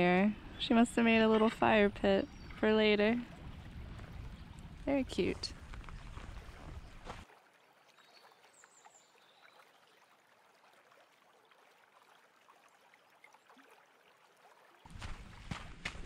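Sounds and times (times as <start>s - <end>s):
trickle of stony creek: 0.1s - 16.0s.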